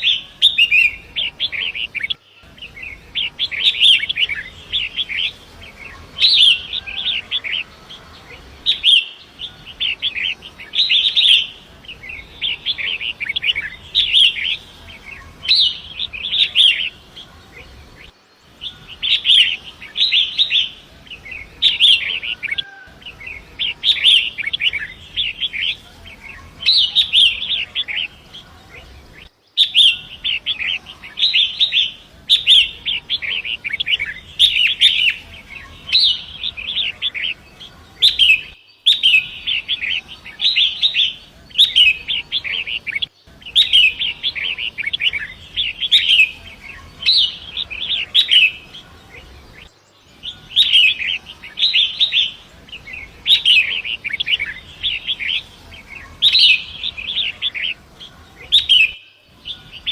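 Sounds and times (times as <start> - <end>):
bird singing scratchy chattering phrases: 0.0 - 59.9.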